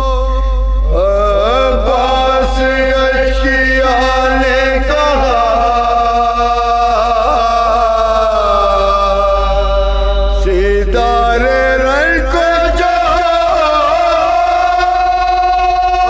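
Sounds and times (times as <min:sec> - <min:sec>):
men singing mournful recitation: 0:00.0 - 0:16.0.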